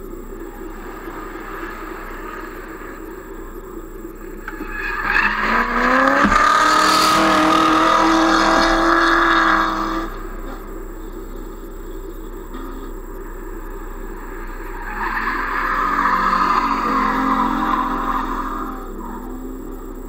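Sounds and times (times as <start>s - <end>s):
car engine revving high: 0.0s - 20.0s
tyres screeching: 0.0s - 20.0s.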